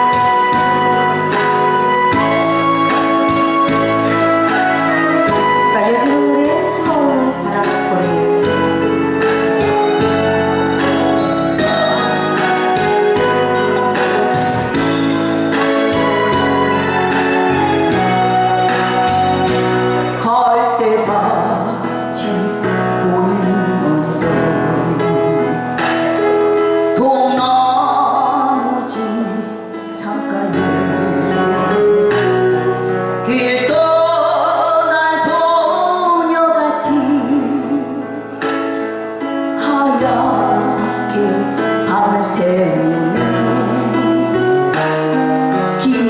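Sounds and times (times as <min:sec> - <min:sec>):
band accompaniment with steady beat: 0:00.0 - 0:20.4, 0:21.8 - 0:28.3, 0:28.9 - 0:34.9, 0:37.5 - 0:46.0
person singing with vibrato: 0:00.0 - 0:38.5, 0:39.2 - 0:46.0.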